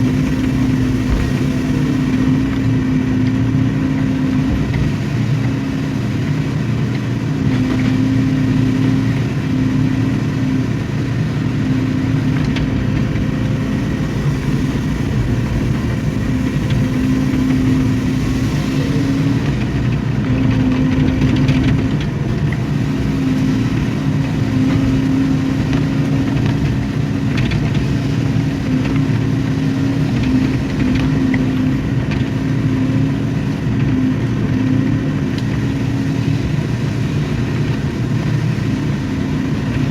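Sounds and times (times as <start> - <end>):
excavator diesel engine running: 0.0 - 39.9
low droning tone: 0.0 - 39.9.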